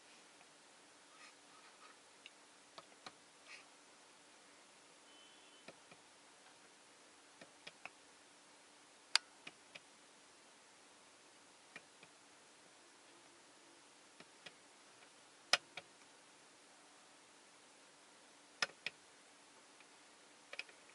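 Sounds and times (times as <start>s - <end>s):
faint hiss: 0.0s - 20.9s.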